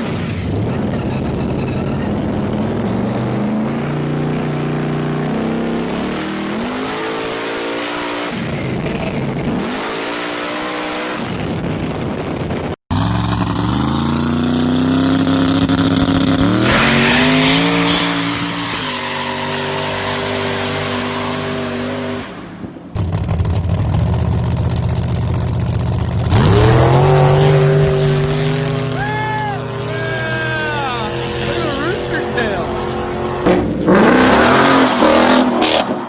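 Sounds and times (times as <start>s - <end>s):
car engines accelerating hard: 0.0s - 36.0s.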